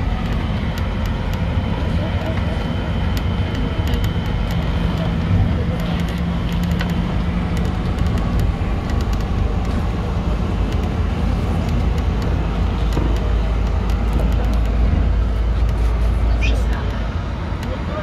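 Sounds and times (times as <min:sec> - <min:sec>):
bus engine hum: 0:00.0 - 0:18.0
road noise: 0:00.0 - 0:18.0
small rattles and clicks: 0:00.1 - 0:16.0.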